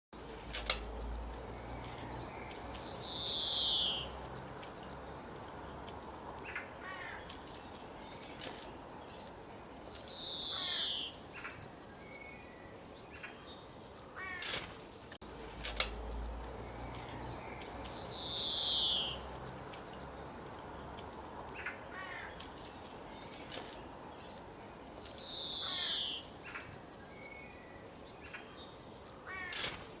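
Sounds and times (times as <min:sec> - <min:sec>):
birds chirping: 0:00.2 - 0:30.0
steady background hiss: 0:00.2 - 0:30.0.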